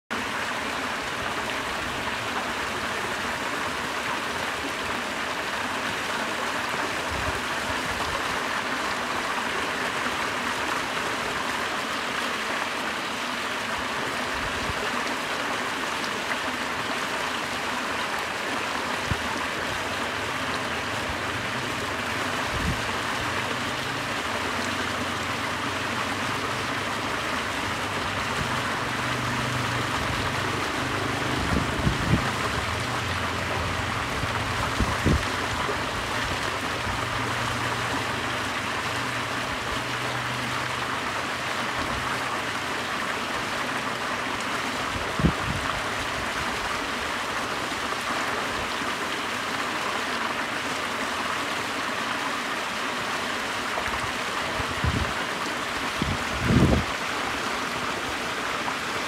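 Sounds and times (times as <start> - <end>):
fountain water rushing and splashing: 0.1 - 59.0.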